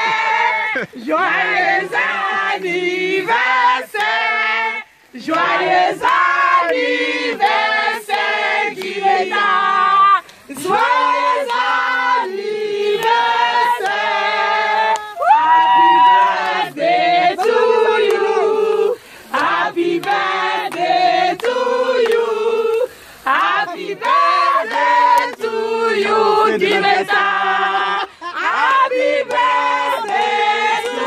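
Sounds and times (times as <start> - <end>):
group singing birthday song: 0.0 - 31.0.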